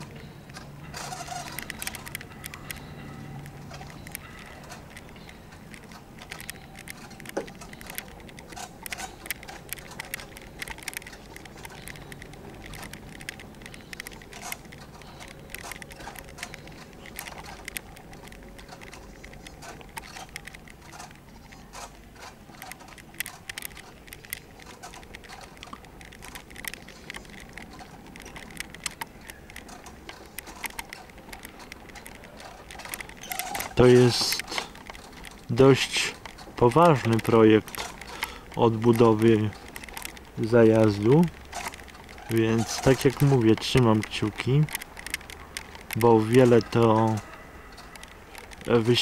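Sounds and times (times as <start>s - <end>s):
wheels rattling over brick paving: 0.0s - 49.0s.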